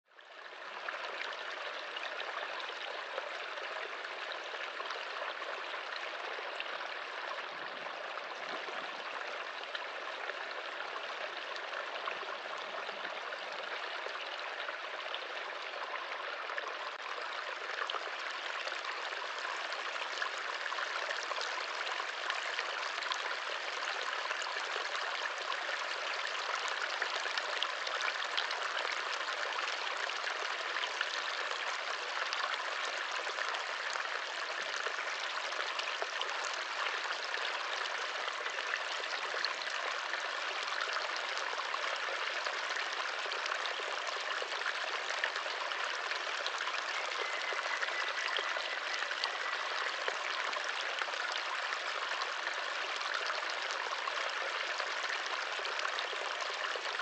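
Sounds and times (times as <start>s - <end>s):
brook babbling over stones: 0.1s - 57.0s.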